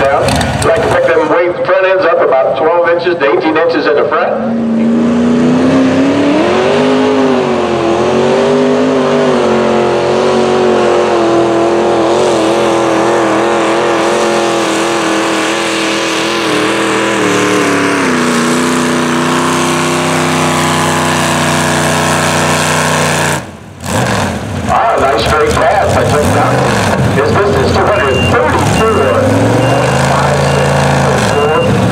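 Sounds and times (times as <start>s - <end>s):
tractor engine running wide open: 0.0s - 31.9s.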